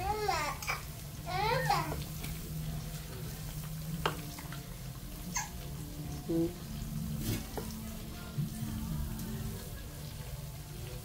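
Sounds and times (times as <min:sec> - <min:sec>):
spoon stirring stew in a pot: 0:01.8 - 0:11.0.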